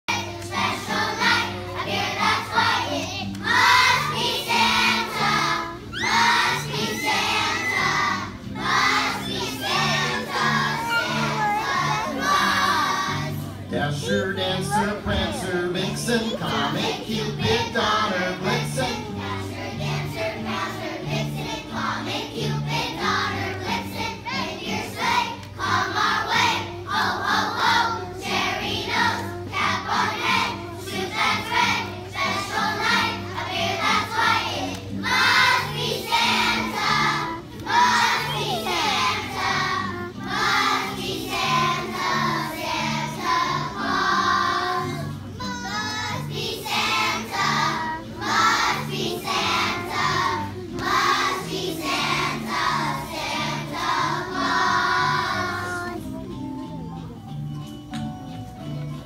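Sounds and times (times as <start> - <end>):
children's choir singing: 0.1 - 56.2
instrumental accompaniment: 0.1 - 59.0.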